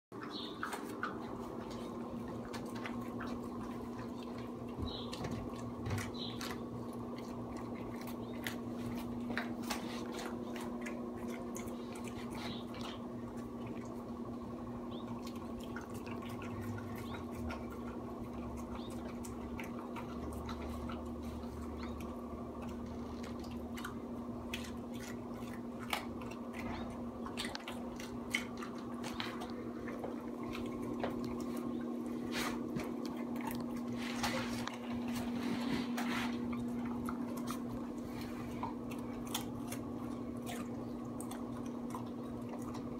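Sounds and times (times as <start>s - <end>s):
dog crunching and chewing food: 0.1s - 42.9s
steady low hum: 0.1s - 42.9s.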